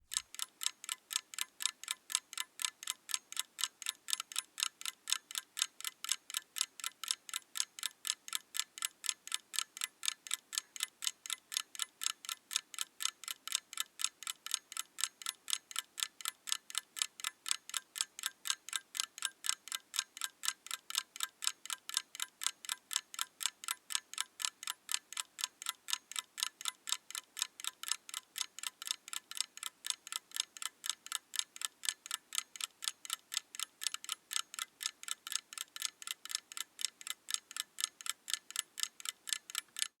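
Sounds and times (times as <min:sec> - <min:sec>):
mechanical clock ticking: 0:00.1 - 0:40.0.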